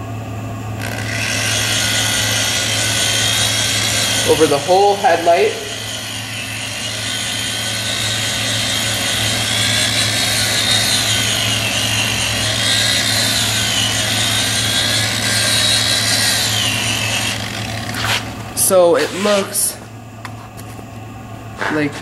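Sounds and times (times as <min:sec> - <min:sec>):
electric drill motor whine: 0:00.8 - 0:19.7.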